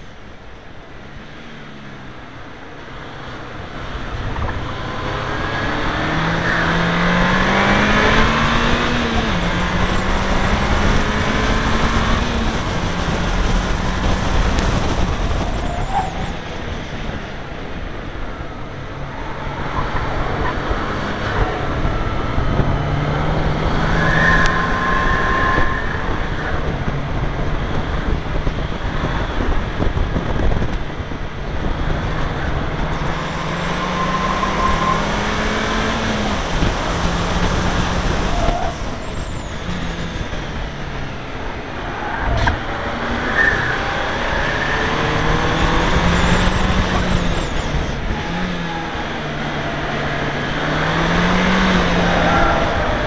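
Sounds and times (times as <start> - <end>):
wind and road noise: 0.0 - 53.0
car engine accelerating hard: 1.0 - 53.0.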